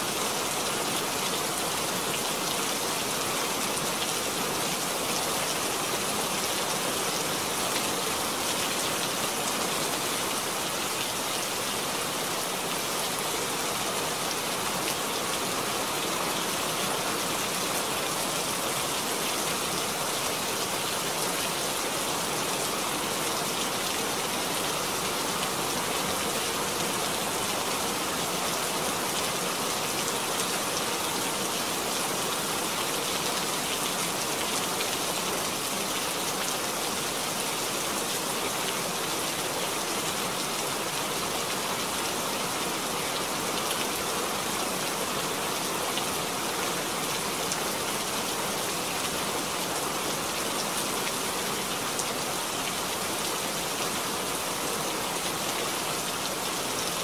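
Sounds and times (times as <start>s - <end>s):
rain splashing onto water: 0.0s - 57.0s.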